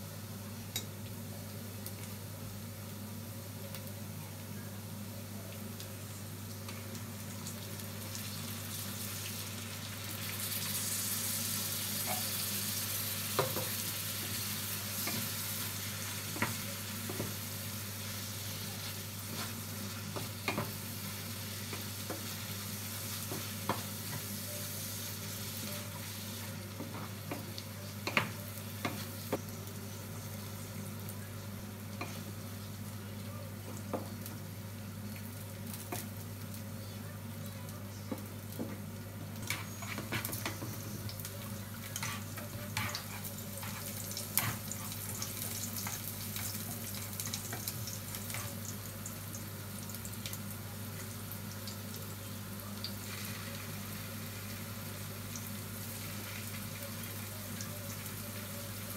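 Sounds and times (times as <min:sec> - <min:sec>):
meat sizzling in a pan: 0:00.0 - 0:58.9.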